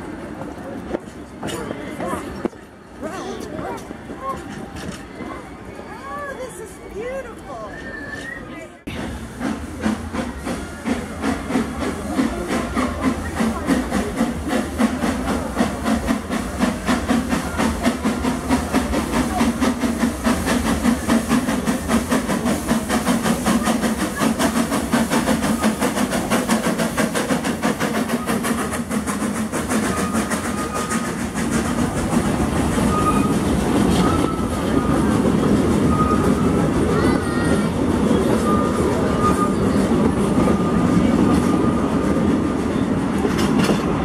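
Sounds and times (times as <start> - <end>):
steam train chuffing: 6.9 - 44.0.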